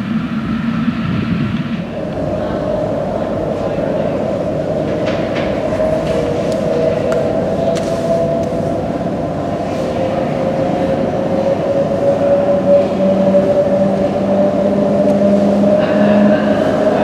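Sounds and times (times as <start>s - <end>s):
locomotive rumble in tunnel: 0.0s - 17.0s.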